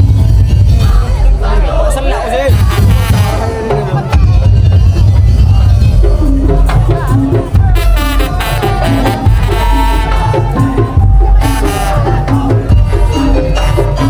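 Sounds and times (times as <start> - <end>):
fast rhythmic percussion ensemble: 0.0 - 14.0.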